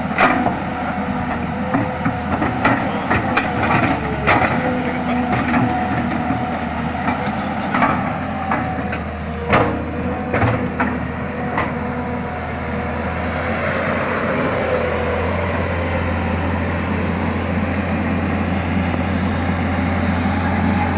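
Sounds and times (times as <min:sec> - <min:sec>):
excavator diesel engine droning: 0:00.0 - 0:20.9.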